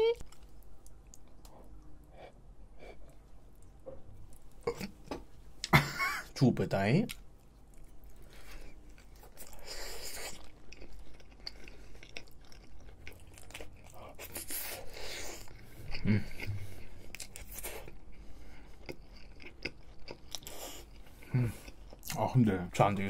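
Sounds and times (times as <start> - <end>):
man chewing food: 0.2 - 5.8, 7.1 - 22.2.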